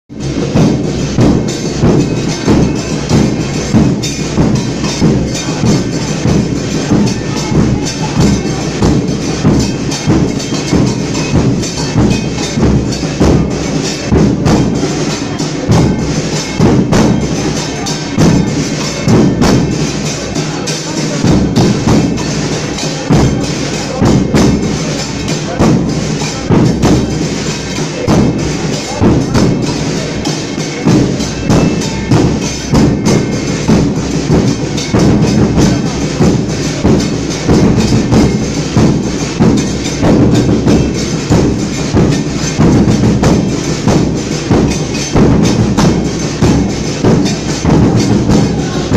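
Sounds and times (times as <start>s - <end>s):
bass drums beating: 0.1s - 48.9s
cymbals crashing: 0.1s - 48.9s.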